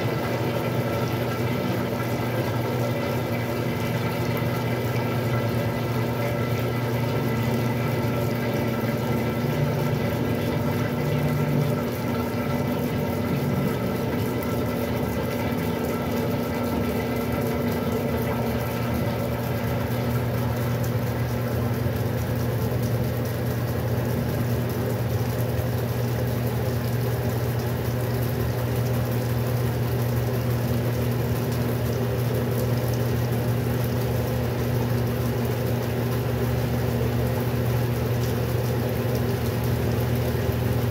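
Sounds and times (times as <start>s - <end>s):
washing machine motor hum: 0.0s - 40.9s.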